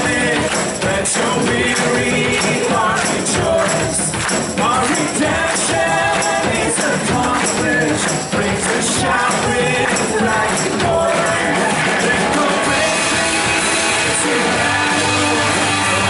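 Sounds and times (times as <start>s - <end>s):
tambourine shaking: 0.0s - 16.0s
voices singing: 0.0s - 16.0s
worship band playing: 0.0s - 16.0s.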